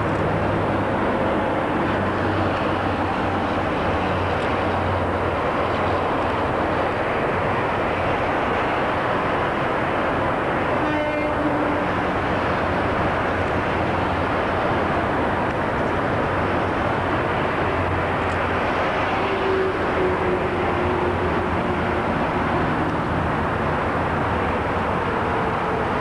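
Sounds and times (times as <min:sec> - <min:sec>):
electric train rumbling past: 0:00.0 - 0:26.0.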